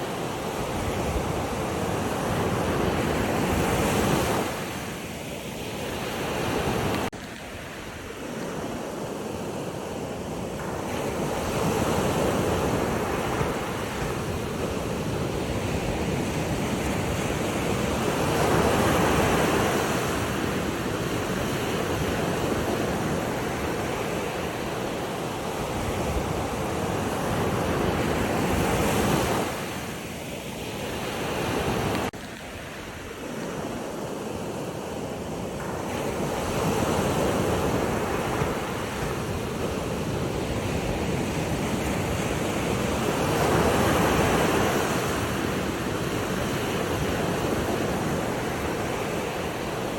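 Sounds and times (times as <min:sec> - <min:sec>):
sea waves washing in: 0:00.0 - 0:49.9.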